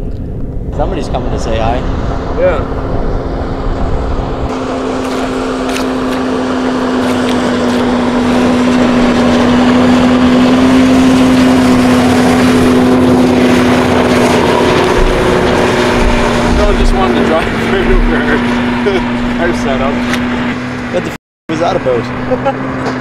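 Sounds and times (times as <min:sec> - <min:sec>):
snowmobile engine passing by: 0:01.0 - 0:23.0.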